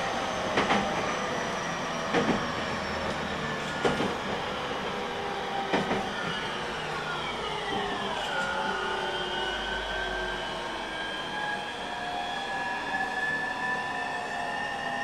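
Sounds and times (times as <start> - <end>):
electric train motor whine: 0.0 - 15.0
train wheel and running noise: 0.0 - 15.0.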